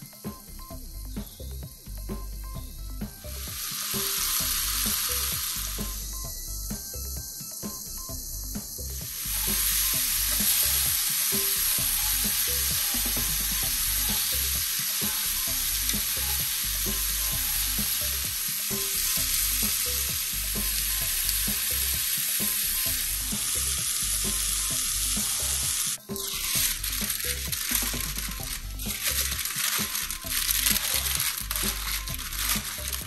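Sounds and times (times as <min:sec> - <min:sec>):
vegetables sizzling in a skillet: 0:03.3 - 0:06.0, 0:09.0 - 0:33.0.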